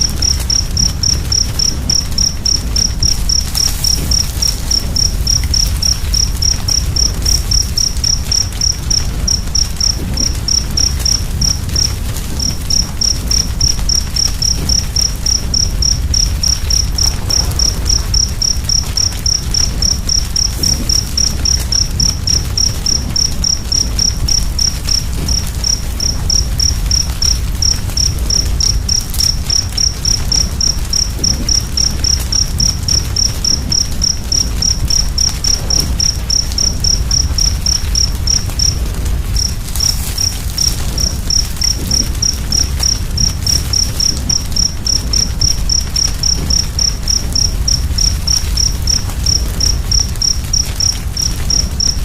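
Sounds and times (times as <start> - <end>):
cricket chirping: 0.0 - 52.0
fire rumbling and crackling: 0.0 - 52.0.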